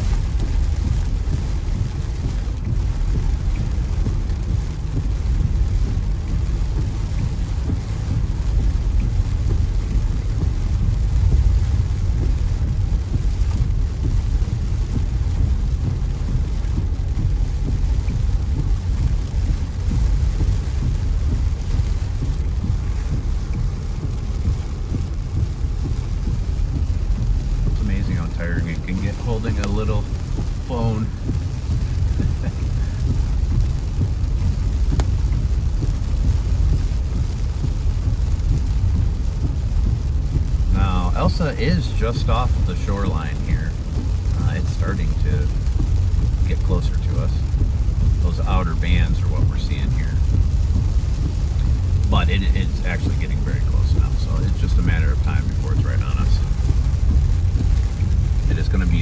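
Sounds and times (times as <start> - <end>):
faint rain: 0.0 - 59.0
wind buffeting microphone: 0.0 - 59.0.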